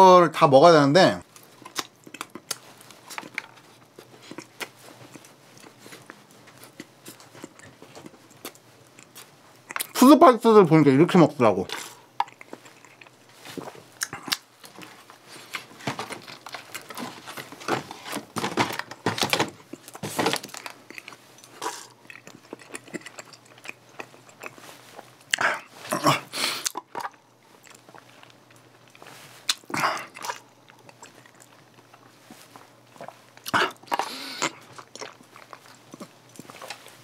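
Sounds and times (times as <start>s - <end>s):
wet chewing: 1.4s - 10.0s, 11.7s - 18.6s, 19.3s - 37.0s.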